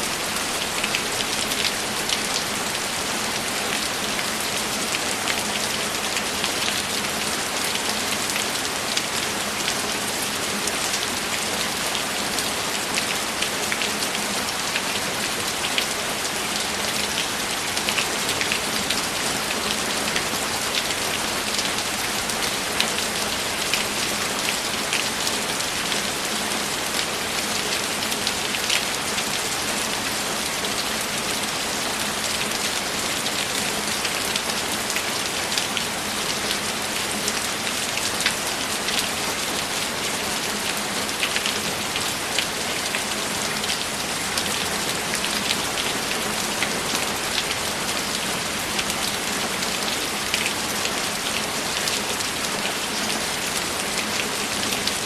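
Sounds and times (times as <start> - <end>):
rain drops ticking on a surface: 0.0 - 55.0.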